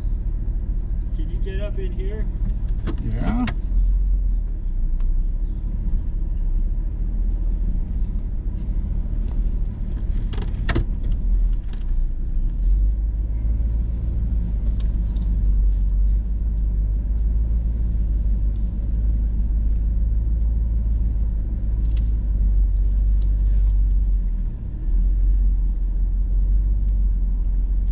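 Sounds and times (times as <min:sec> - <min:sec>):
engine low rumble: 0:00.0 - 0:27.9.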